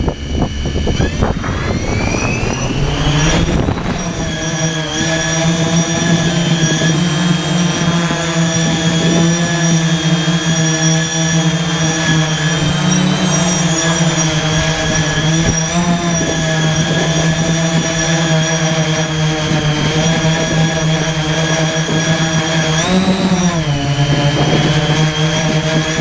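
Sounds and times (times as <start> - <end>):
drone propeller hum: 0.0 - 26.0.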